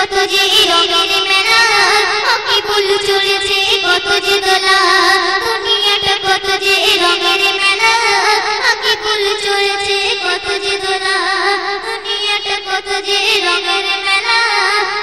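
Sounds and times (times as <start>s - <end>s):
girl singing into a microphone: 0.0s - 15.0s.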